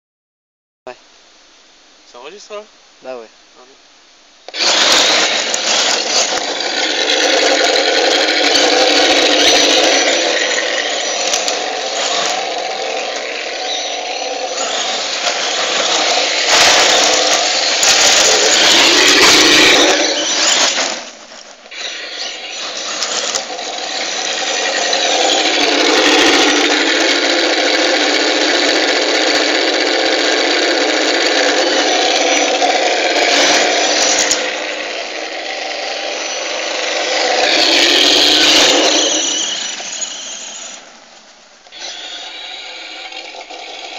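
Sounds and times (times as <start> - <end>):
toy truck motor whine: 4.5 - 40.9, 41.7 - 43.9.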